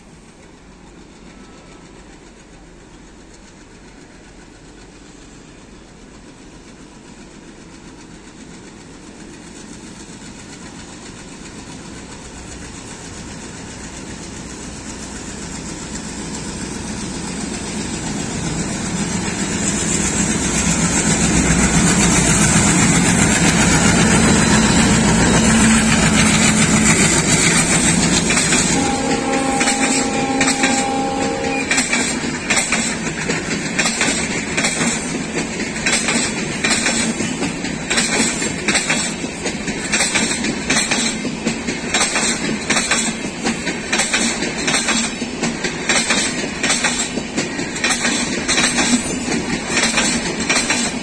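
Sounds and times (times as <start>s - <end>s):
coaches rumbling on rails: 0.0s - 51.0s
diesel locomotive running: 0.0s - 51.0s.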